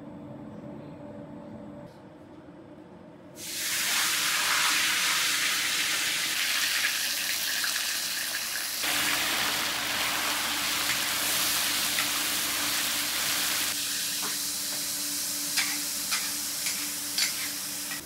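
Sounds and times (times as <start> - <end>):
meat sizzling in hot oil: 3.4 - 18.0.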